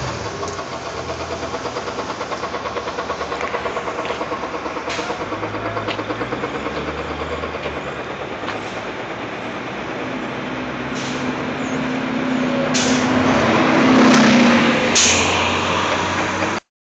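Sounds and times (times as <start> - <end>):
heavy engine idling: 0.0 - 16.6.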